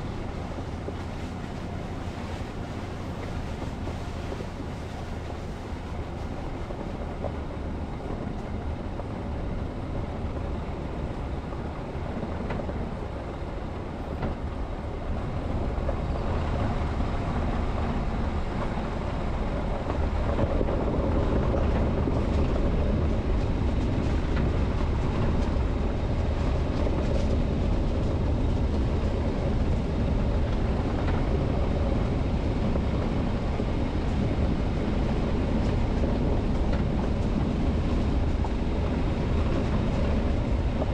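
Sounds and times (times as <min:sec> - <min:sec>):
vehicle road noise rumble: 0:00.0 - 0:40.9.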